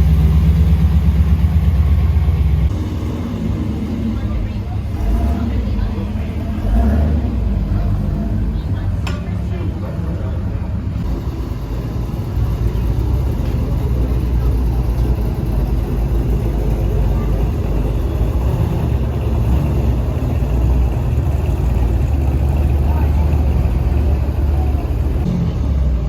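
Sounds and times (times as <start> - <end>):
car engine running: 0.0 - 25.3.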